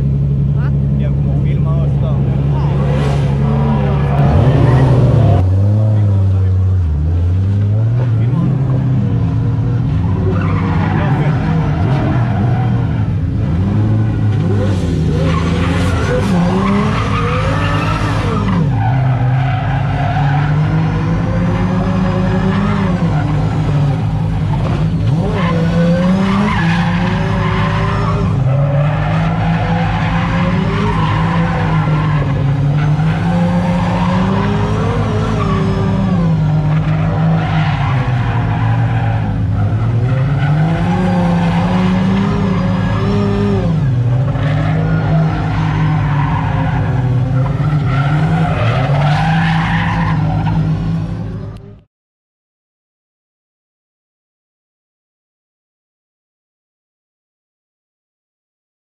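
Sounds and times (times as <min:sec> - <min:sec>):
car engine revving: 0:00.0 - 0:51.7
tyres squealing on asphalt: 0:01.1 - 0:07.1, 0:07.7 - 0:51.4.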